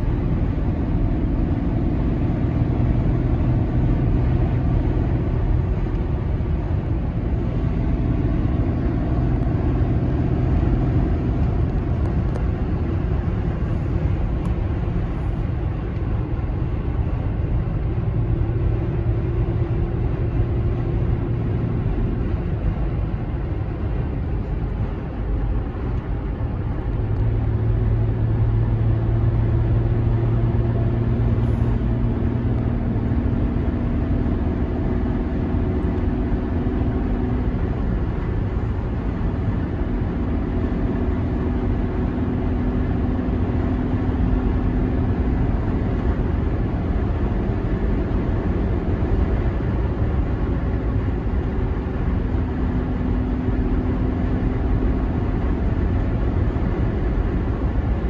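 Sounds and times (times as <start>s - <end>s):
car engine and road noise drone: 0.0s - 58.0s.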